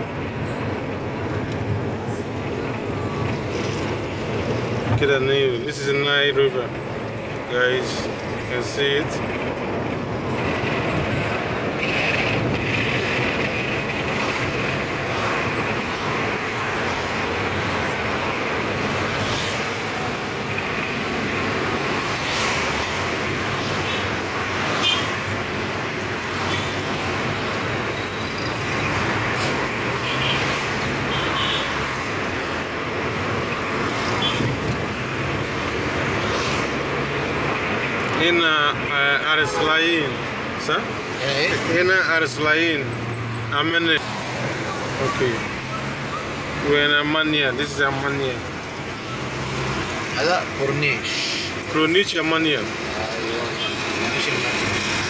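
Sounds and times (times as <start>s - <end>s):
car engine and tyre noise: 0.0s - 55.0s
surrounding traffic: 0.0s - 55.0s.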